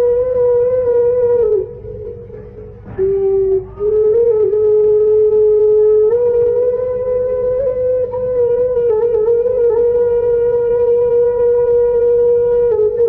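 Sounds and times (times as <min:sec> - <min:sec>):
bamboo flute long note: 0:00.0 - 0:13.0.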